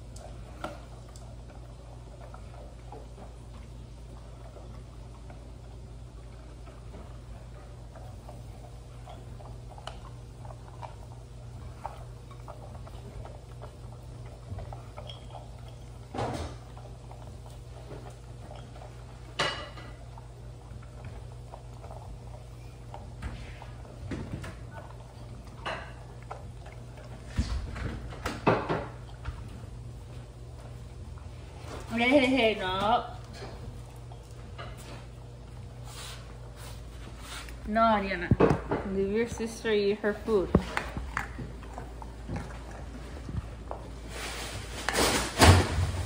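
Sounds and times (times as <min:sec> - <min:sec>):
dogs chewing and licking: 0:00.0 - 0:46.0.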